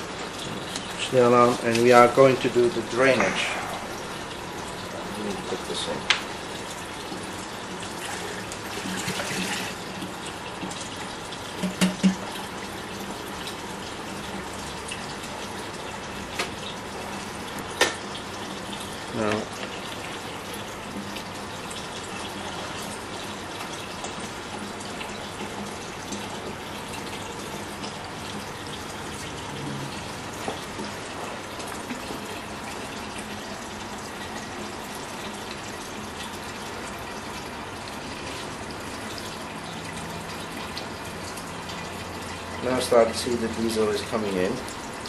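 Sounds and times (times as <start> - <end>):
liquid filling a plastic bottle: 0.0 - 45.0.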